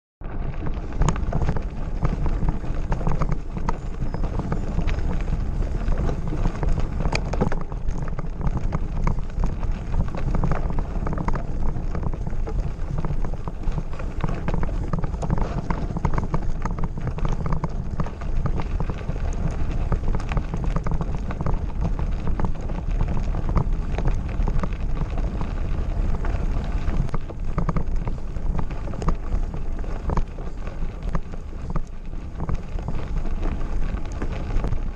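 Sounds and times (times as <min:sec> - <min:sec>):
bike rattling over gravel: 0:00.2 - 0:34.9.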